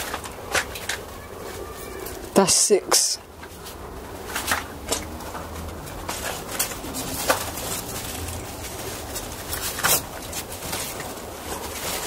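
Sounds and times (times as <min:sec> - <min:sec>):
rustling leaves and vines: 0:00.0 - 0:12.0.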